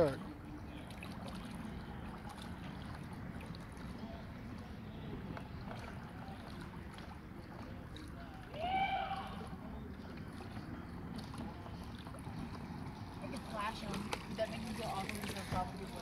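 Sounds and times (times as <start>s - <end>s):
water and wind rushing: 0.0s - 16.0s.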